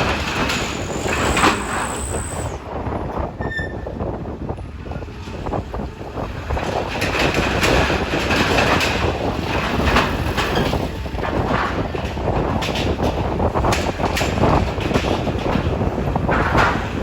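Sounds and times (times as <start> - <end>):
strong wind: 0.0 - 17.0.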